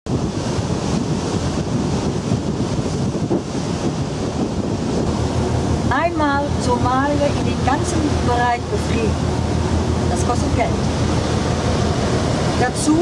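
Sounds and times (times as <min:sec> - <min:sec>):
open sea washing: 0:00.1 - 0:13.0
wind buffeting microphone: 0:00.1 - 0:13.0.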